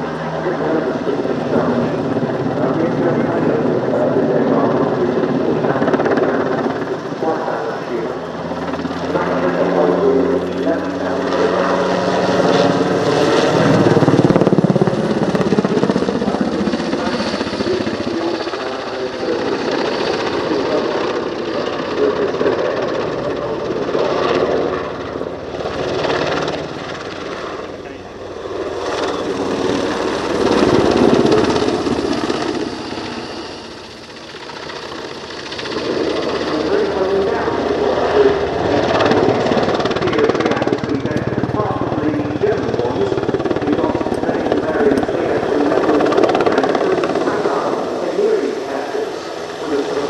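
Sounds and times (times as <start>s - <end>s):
helicopter rotor and engines: 0.0s - 50.0s.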